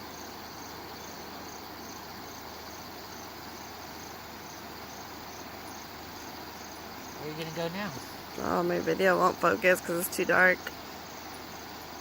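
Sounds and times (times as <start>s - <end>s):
continuous high insect trill: 0.0s - 12.0s
crickets chirping: 0.0s - 12.0s.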